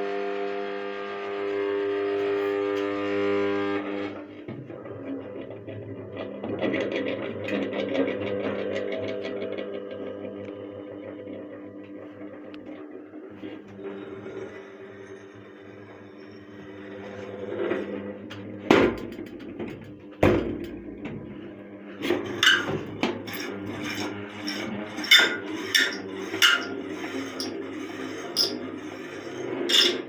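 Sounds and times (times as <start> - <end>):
scraping rattles: 4.2 - 30.0.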